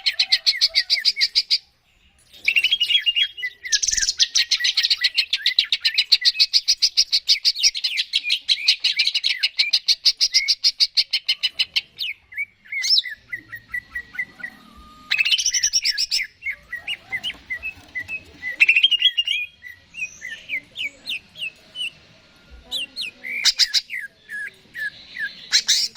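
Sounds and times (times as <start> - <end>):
bird chirps: 2.3 - 22.0, 22.8 - 25.9.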